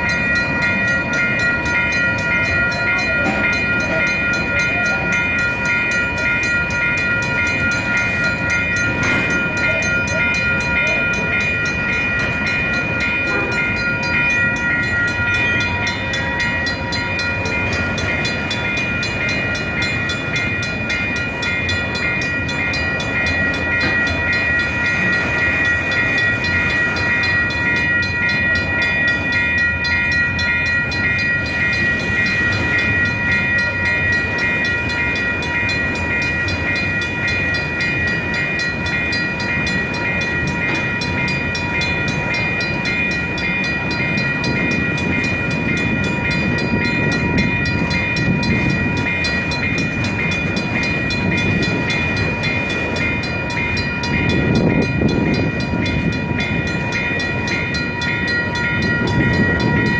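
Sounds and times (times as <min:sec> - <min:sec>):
crossing bell ringing: 0:00.0 - 0:59.9
freight train rumbling past: 0:00.0 - 0:59.9.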